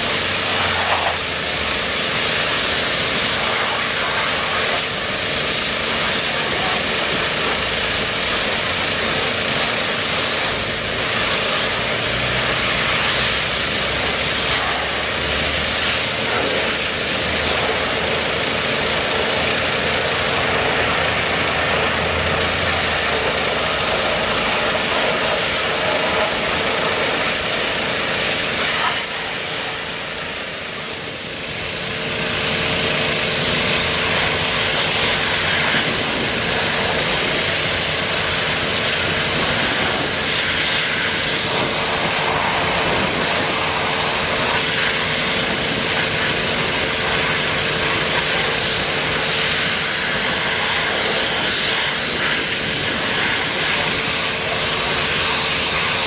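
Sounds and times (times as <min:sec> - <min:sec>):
engine running: 0:00.0 - 0:56.0
high-pressure water spraying: 0:00.0 - 0:56.0.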